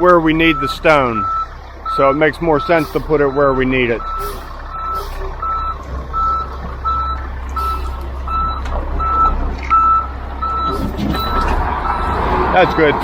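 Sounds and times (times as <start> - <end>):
diesel engine rumble: 0.0 - 13.0
back-up alarm beeping: 0.4 - 12.9.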